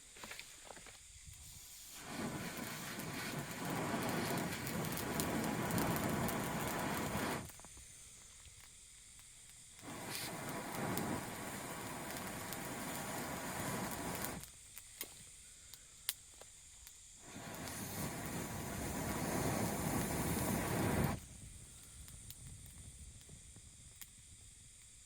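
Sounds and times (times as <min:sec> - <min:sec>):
wood fire crackling: 0:00.1 - 0:25.0
long rushing hisses: 0:00.8 - 0:25.0.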